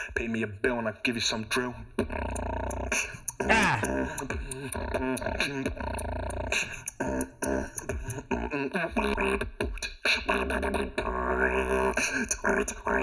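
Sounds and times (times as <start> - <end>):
beatboxing: 0.0 - 13.0.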